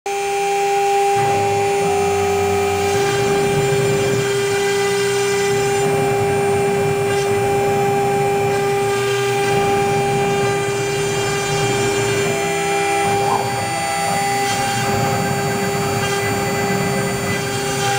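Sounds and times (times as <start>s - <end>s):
spindle motors whining: 0.1s - 17.9s
low machine rumble: 0.8s - 17.9s.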